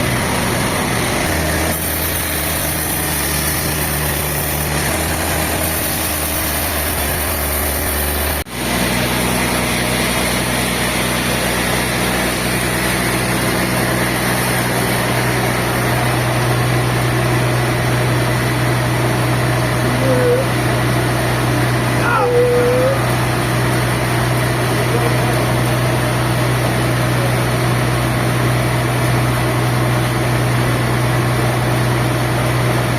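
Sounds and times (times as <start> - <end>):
sawmill machinery engines running: 0.0 - 32.9.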